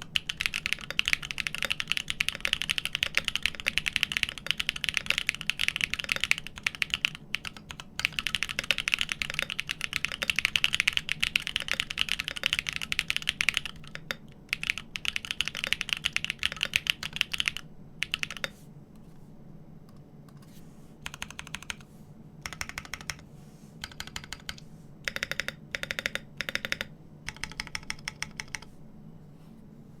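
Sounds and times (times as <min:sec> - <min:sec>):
typing on mechanical keyboard: 0:00.0 - 0:18.5, 0:21.0 - 0:21.8, 0:22.4 - 0:23.2, 0:23.8 - 0:28.7.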